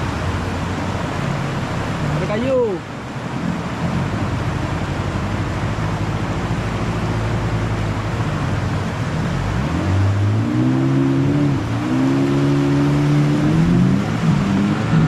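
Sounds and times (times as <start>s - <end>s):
rushing white water: 0.0s - 15.0s.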